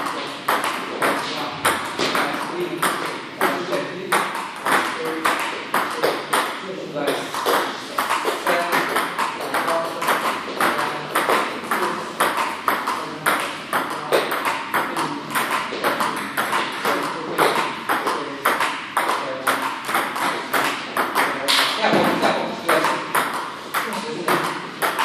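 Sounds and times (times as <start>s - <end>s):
ball bouncing on table: 0.0s - 25.0s
table tennis ball clicking off paddles: 0.0s - 25.0s.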